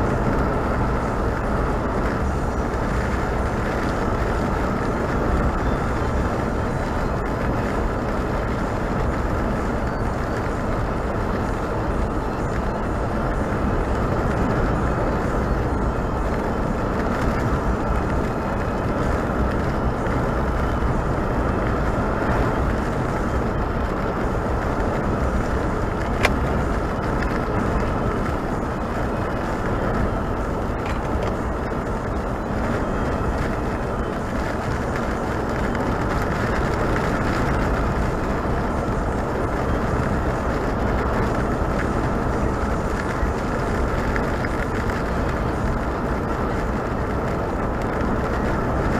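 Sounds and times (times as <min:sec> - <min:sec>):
car road noise: 0:00.0 - 0:48.9.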